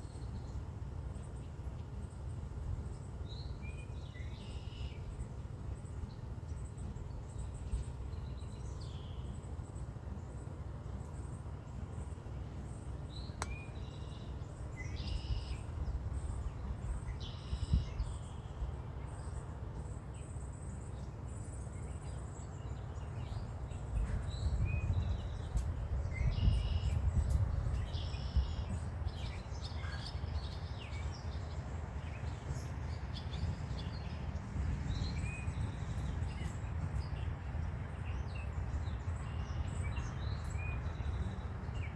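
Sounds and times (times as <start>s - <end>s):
songbirds chirping: 0.0s - 41.9s
steady low rumble: 0.0s - 41.9s.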